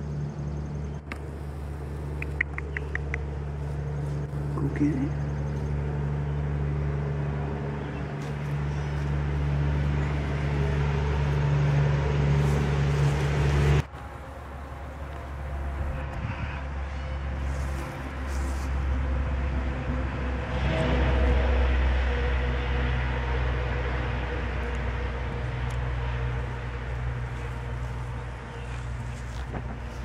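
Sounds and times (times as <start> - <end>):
low hum: 0.0 - 30.0
low mechanical drone: 0.0 - 30.0
outdoor background noise: 0.0 - 30.0.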